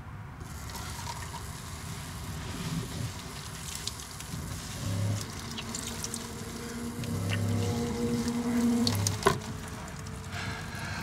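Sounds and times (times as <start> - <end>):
hands scrubbing lathered hair: 1.0 - 10.9.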